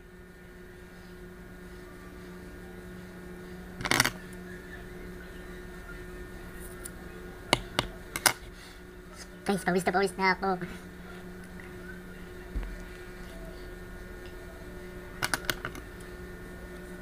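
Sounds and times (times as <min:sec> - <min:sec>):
electric fan humming: 0:00.0 - 0:17.0.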